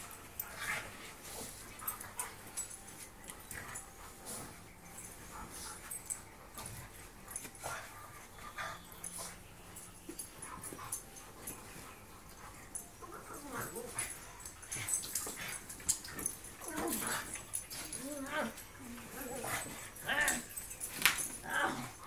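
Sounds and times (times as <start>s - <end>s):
dogs scuffling and pawing: 0.0s - 22.0s
dogs whining and yipping: 0.1s - 22.0s.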